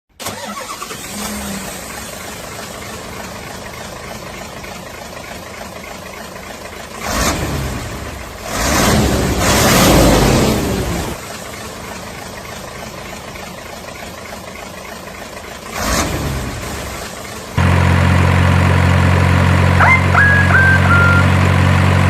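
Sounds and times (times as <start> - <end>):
model excavator engine running: 0.2 - 22.0.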